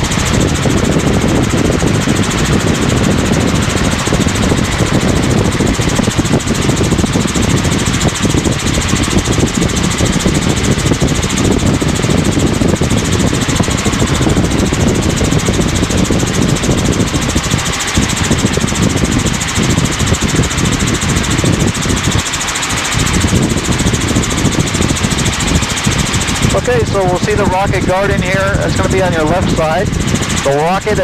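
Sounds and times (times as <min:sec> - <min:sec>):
helicopter rotor drone: 0:00.0 - 0:31.0.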